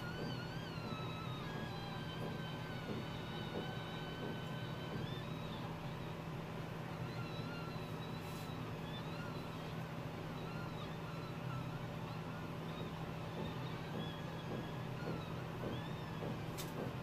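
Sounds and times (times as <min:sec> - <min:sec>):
hot-air station blowing: 0:00.0 - 0:17.0.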